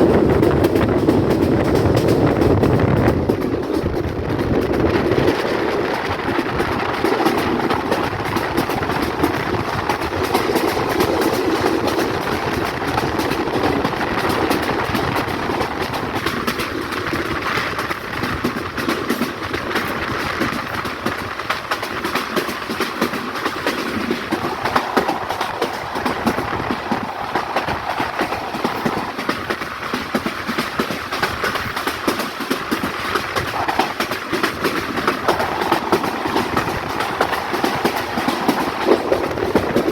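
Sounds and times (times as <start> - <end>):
train rumbling: 0.0 - 39.9
train wheels clattering on rails: 0.0 - 39.9.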